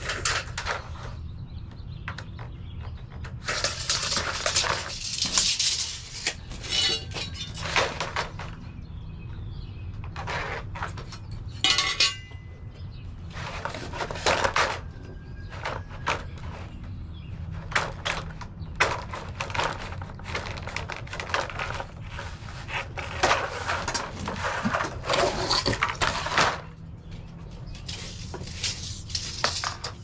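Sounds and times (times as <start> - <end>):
siding panels clattering and scraping: 0.0 - 30.0.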